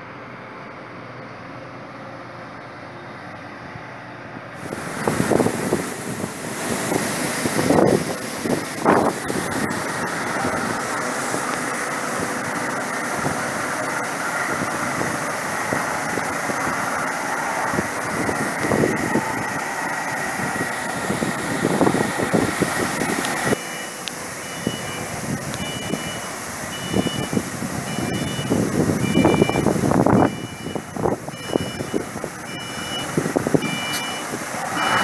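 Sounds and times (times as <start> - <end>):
grain dryer fans roaring: 0.0 - 35.0
truck engine running: 0.0 - 35.0.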